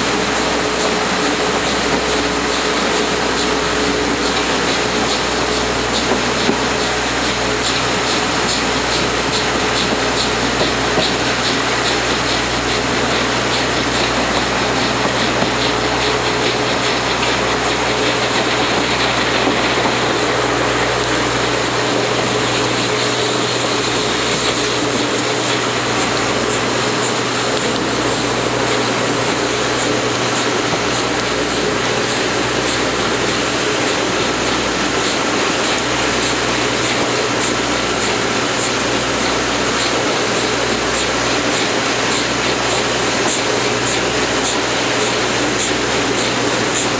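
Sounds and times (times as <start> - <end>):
steam locomotive exhaust beats: 0.0 - 46.9
train coach rumble and rail noise: 0.0 - 46.9.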